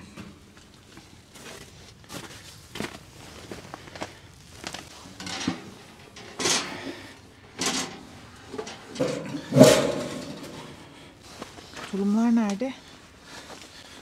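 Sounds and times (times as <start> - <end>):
rustling crunching noises: 0.0 - 14.0.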